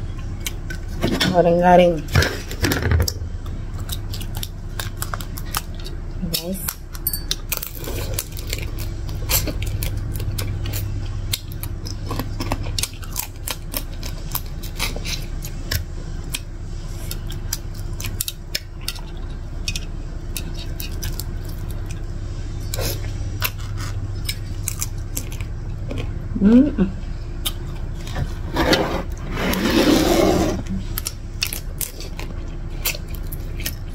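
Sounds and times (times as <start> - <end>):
steady low hum: 0.0 - 33.9
crunchy chewing: 3.4 - 26.2, 27.4 - 33.9.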